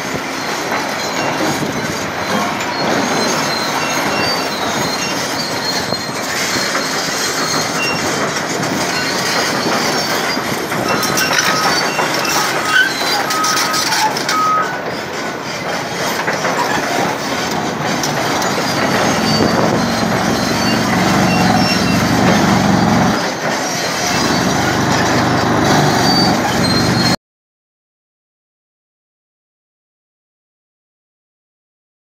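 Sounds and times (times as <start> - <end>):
excavator engine: 0.0 - 27.2.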